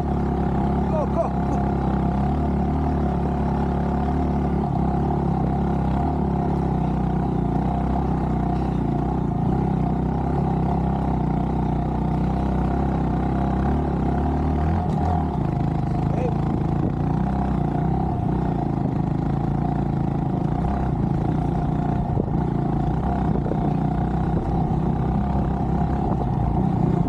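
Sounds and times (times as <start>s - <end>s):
motorcycle engine under load: 0.0s - 27.0s.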